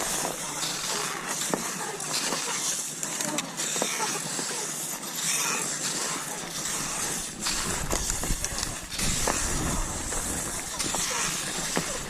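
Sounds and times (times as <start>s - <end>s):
skis hissing and scraping on snow: 0.0s - 12.0s.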